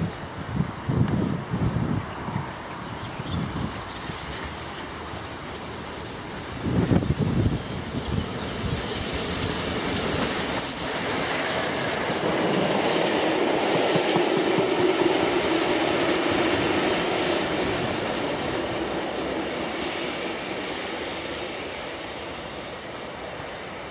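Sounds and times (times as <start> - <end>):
steam locomotive passing: 0.0 - 23.9
train coaches going by: 0.0 - 23.9.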